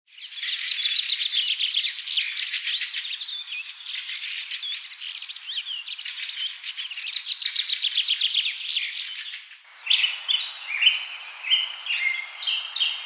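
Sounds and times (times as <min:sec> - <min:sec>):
songbirds chirping and singing: 0:00.1 - 0:13.0.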